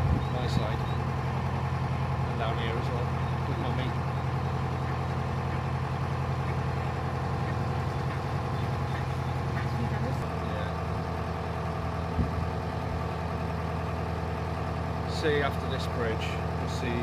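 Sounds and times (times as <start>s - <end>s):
boat diesel engine running: 0.0s - 17.0s.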